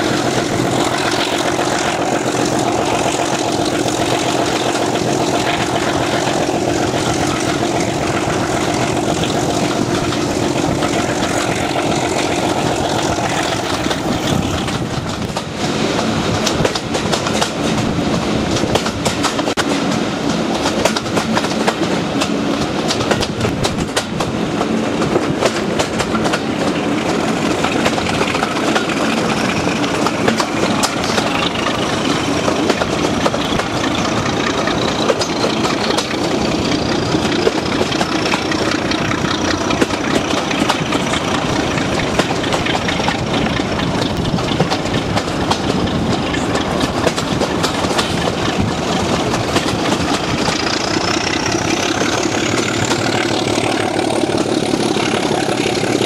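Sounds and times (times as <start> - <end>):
diesel locomotive engine: 0.0 - 56.0
wheels clattering on rail joints: 0.0 - 56.0.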